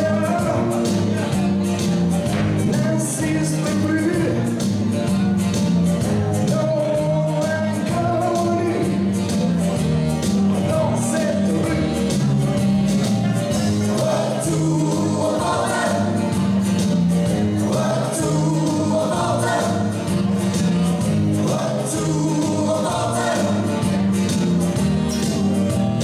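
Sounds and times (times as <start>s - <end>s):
upbeat song with group vocals: 0.0s - 5.2s, 6.0s - 26.0s
bass line: 0.0s - 26.0s.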